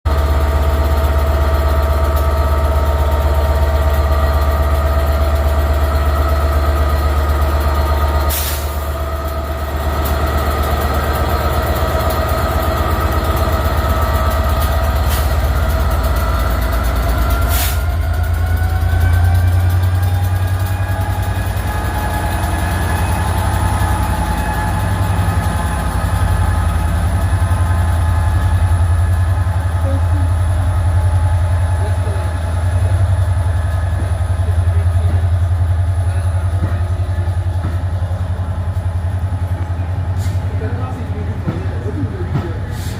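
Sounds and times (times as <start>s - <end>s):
diesel locomotive engine drone: 0.0s - 42.9s.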